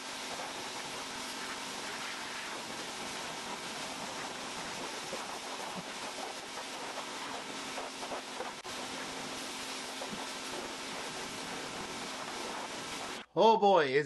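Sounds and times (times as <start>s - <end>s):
pressure washer spraying: 0.0s - 13.2s.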